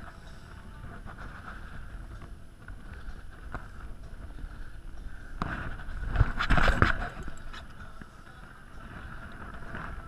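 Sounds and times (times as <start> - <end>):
steady rumble: 0.0 - 10.0
wind buffeting microphone: 0.0 - 10.0.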